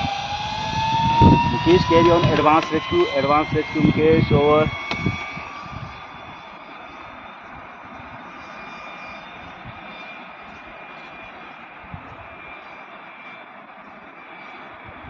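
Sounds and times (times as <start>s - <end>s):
zipline trolley whirring on cable: 0.0s - 15.0s.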